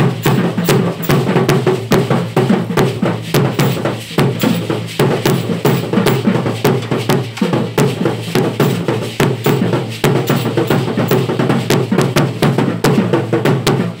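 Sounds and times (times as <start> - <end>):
sharp clicking strikes: 0.0 - 12.1
drum beating fast rhythm: 0.0 - 14.0.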